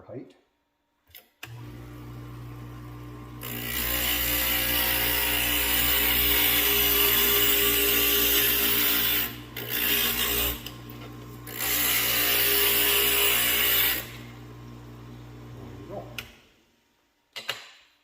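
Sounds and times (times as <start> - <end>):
glass grinder motor hum: 1.5 - 16.2.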